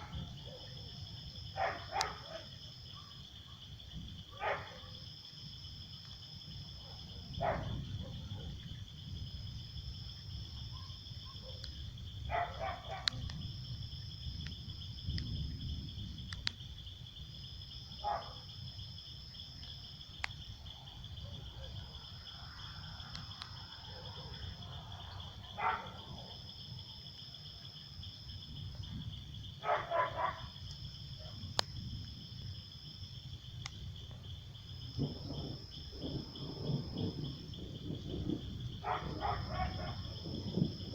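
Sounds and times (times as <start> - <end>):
crickets chirring: 0.0 - 40.9
short insect calls: 0.0 - 40.9.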